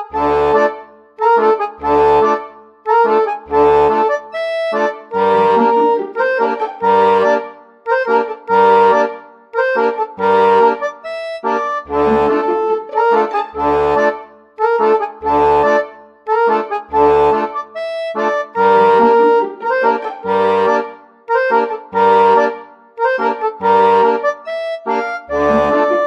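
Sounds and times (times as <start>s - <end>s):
instrumental background music: 0.0s - 26.0s.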